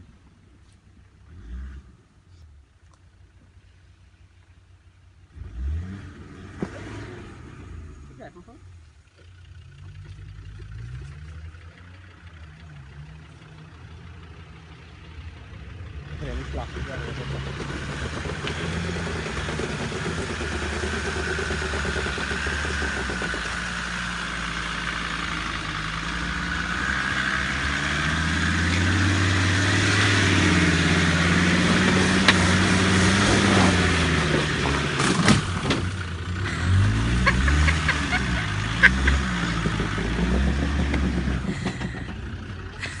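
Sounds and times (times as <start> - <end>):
engine revving: 1.2 - 2.0, 5.3 - 8.6, 9.2 - 43.0
engine working under load: 5.2 - 43.0.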